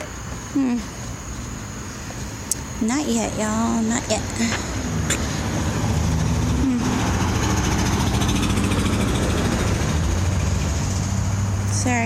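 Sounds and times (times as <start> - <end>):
traffic passing: 0.0 - 12.0
vehicle engine humming: 0.0 - 12.0.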